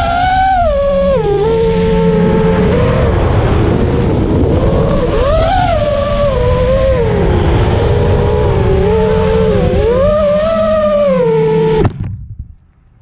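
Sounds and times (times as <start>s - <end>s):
quadcopter motors whining: 0.0s - 12.0s
low wind rumble on microphone: 0.0s - 13.0s.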